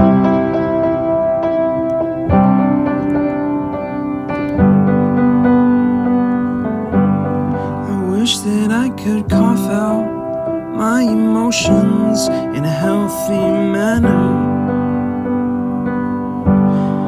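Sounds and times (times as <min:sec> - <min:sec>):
piano intro: 0:00.0 - 0:17.0
sustained keyboard chords: 0:00.0 - 0:17.0.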